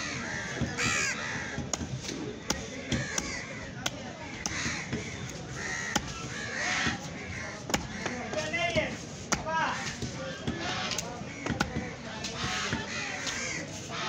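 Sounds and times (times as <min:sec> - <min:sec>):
cleaver chopping fish on block: 0:00.4 - 0:13.4.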